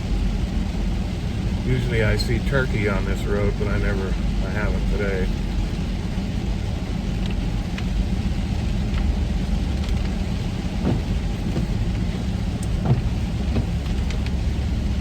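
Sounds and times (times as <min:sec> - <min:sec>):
van road and engine rumble: 0:00.0 - 0:15.0.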